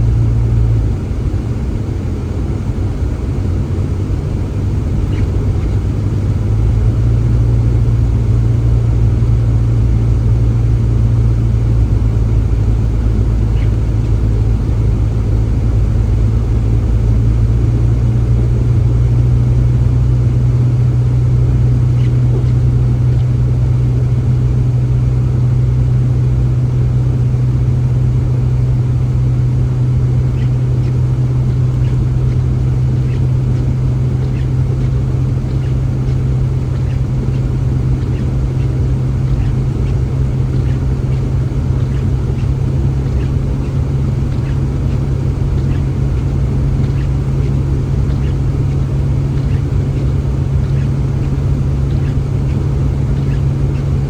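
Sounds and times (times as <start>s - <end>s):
engine humming and rumbling: 0.0s - 54.0s.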